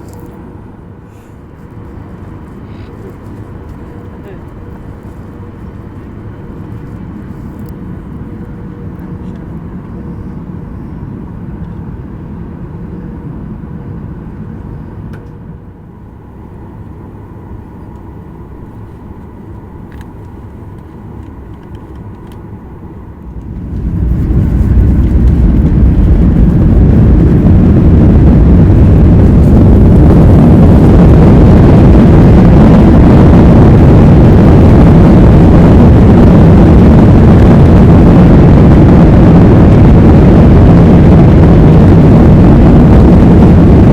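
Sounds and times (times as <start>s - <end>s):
helicopter engine and rotor noise: 0.0s - 43.9s.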